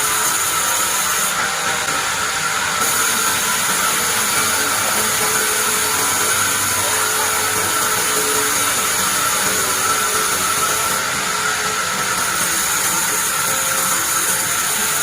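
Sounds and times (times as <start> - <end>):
band sawmill whining: 0.0 - 15.0.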